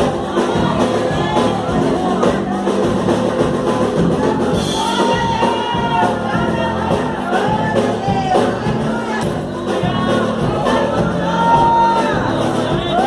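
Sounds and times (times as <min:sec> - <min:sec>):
drums playing: 0:00.0 - 0:13.0
voices singing: 0:00.0 - 0:13.0.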